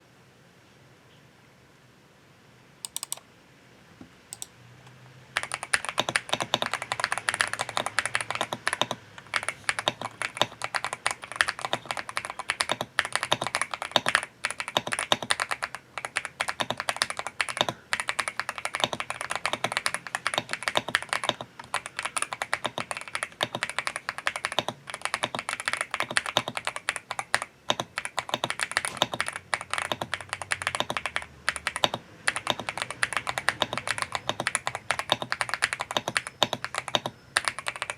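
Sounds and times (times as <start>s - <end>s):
mechanical keyboard typing: 2.9s - 3.2s, 5.4s - 37.9s.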